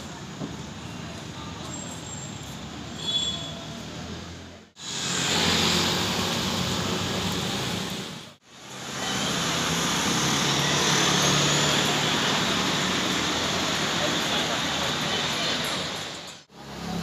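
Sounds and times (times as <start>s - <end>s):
outdoor street noise: 0.0s - 17.0s.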